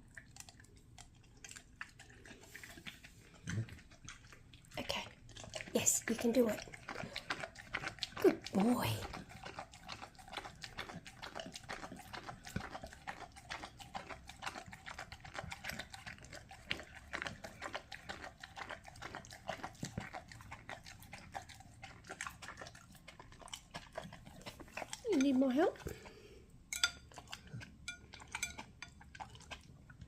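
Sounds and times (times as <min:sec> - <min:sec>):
dog chewing food: 0:00.0 - 0:30.0.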